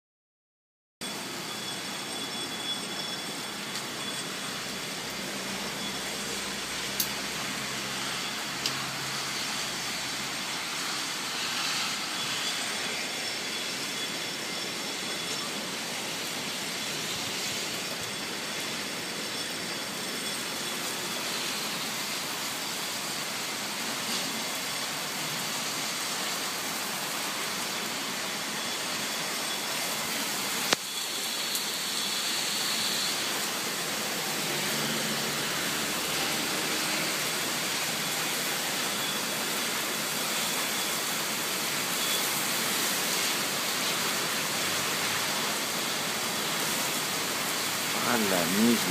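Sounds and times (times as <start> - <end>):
heavy rain pouring: 1.0 - 48.9.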